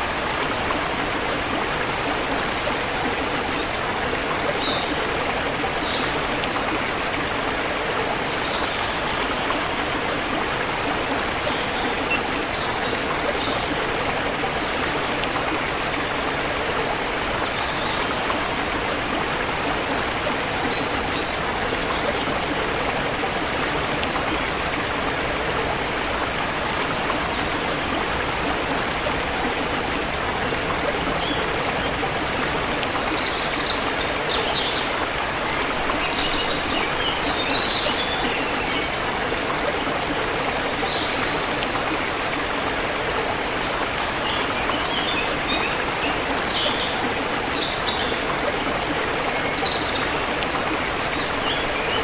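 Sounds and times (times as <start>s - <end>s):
river water flowing over rocks: 0.0s - 52.0s.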